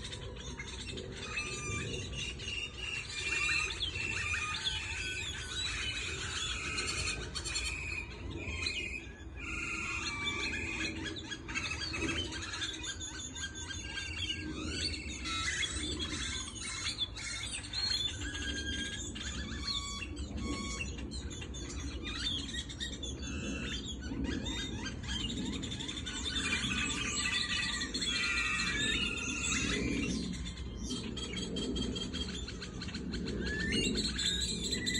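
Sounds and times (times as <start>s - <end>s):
flock of small birds chirping: 0.0s - 34.9s.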